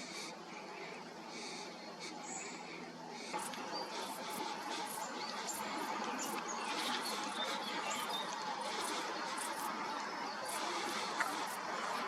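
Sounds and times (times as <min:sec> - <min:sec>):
flock of small birds chirping: 0:00.0 - 0:12.0.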